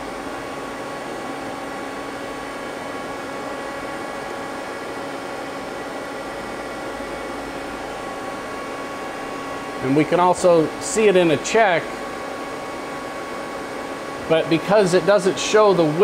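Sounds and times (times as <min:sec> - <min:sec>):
machine-shop equipment humming: 0:00.0 - 0:16.0.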